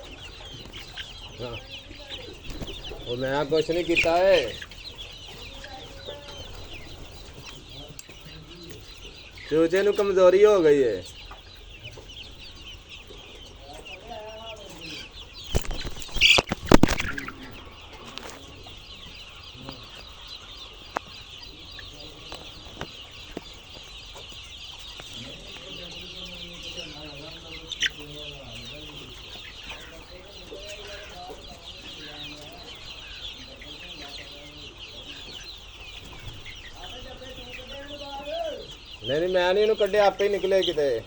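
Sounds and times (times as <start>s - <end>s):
chicks peeping: 0.0s - 41.0s
hens clucking: 0.0s - 41.0s.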